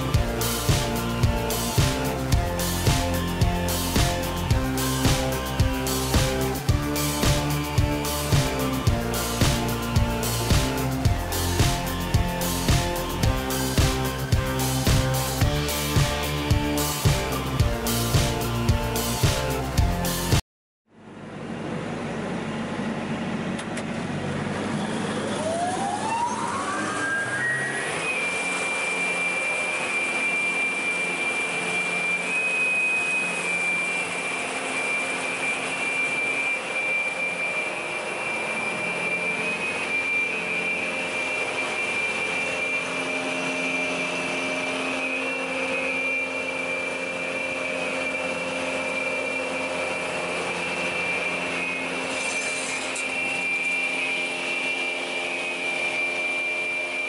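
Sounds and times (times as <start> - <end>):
saw motor whining: 0.0 - 20.4, 24.2 - 57.0.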